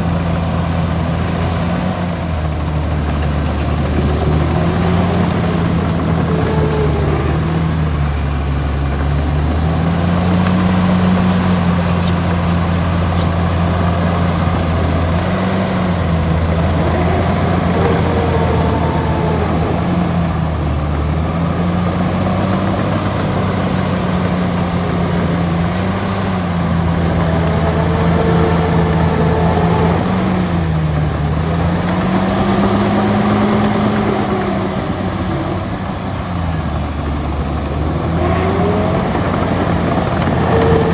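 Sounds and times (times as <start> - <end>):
heavy diesel engine under load: 0.0 - 40.9.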